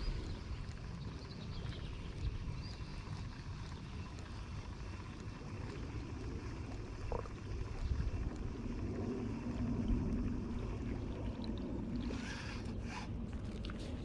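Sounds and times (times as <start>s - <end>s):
low steady hum: 0.0s - 14.0s
wind and water rumble: 0.0s - 14.0s.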